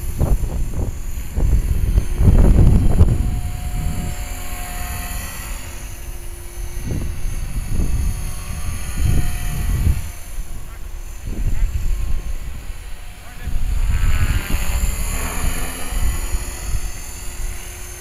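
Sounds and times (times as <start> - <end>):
rc helicopter rotor whine: 0.0 - 18.0
wind rumbling on microphone: 0.0 - 18.0.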